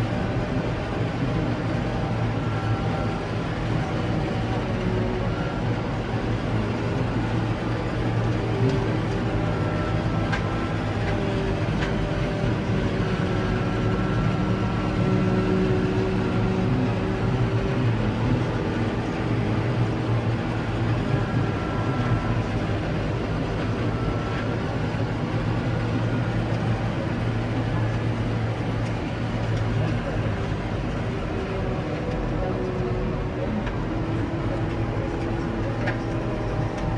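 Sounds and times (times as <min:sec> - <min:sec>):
loud engine drone: 0:00.0 - 0:36.9.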